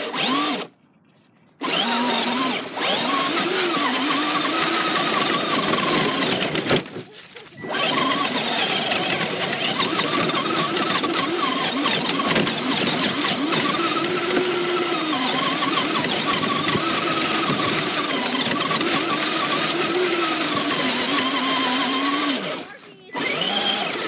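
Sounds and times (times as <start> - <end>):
rc car motor whining: 0.0 - 0.7, 1.6 - 24.0.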